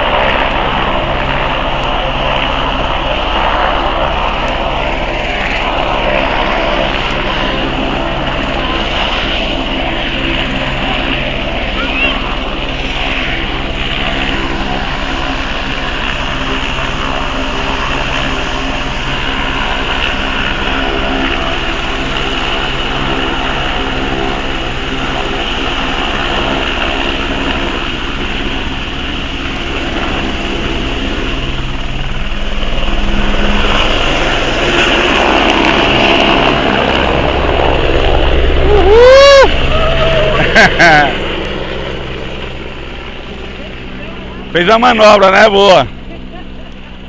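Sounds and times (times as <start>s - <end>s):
helicopter turbine and rotor: 0.0s - 47.0s.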